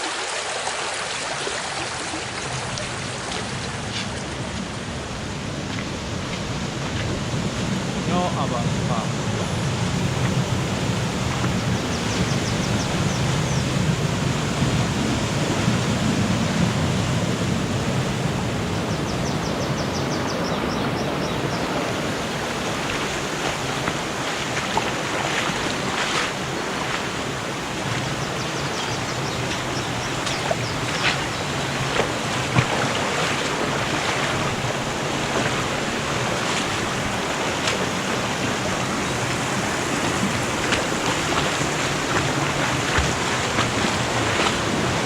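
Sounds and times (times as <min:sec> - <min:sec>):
stream rushing: 0:00.0 - 0:45.0.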